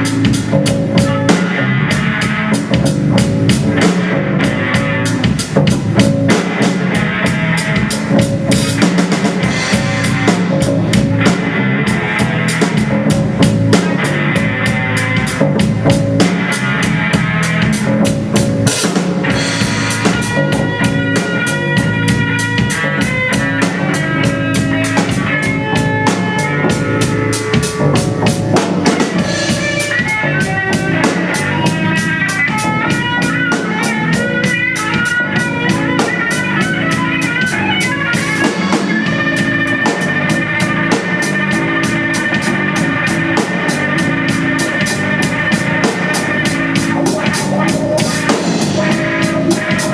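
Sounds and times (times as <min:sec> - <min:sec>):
amplified lead instrument runs: 0:00.0 - 0:49.9
drum kit steady beat: 0:00.0 - 0:49.9.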